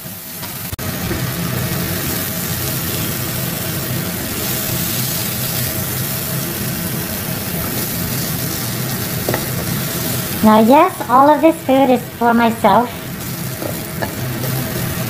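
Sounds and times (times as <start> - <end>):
food sizzling in a wok: 0.0 - 15.0
steady low hum: 0.6 - 15.0.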